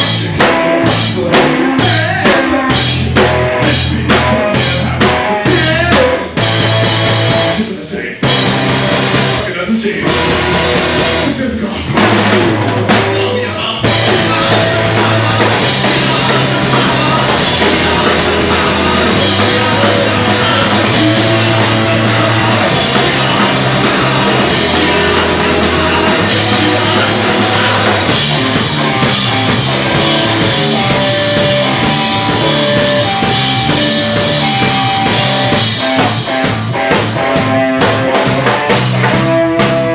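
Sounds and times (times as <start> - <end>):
person singing: 0.0 - 8.3, 9.4 - 12.0, 12.9 - 36.2
drum kit: 0.0 - 39.9
rock band playing live: 0.0 - 39.9.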